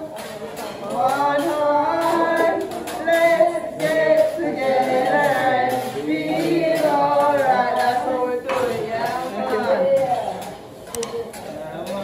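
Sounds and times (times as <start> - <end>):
steady beat: 0.0 - 10.4.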